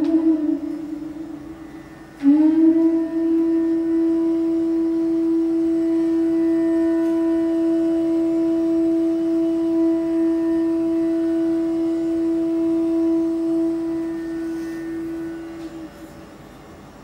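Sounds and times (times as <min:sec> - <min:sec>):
bamboo flute long note: 0:00.0 - 0:16.6.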